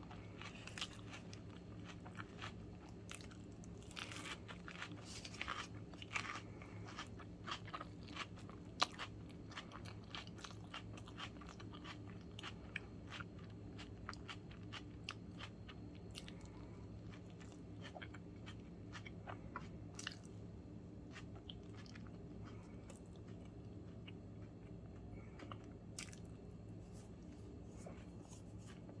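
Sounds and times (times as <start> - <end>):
low steady hum: 0.0 - 29.0
sandwich crunching and chewing: 0.0 - 29.0.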